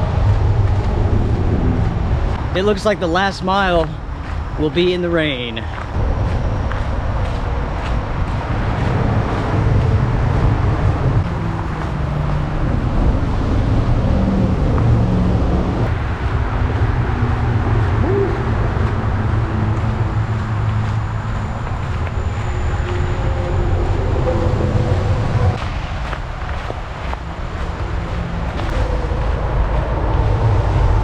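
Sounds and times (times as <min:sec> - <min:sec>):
highway traffic drone: 0:00.0 - 0:31.0.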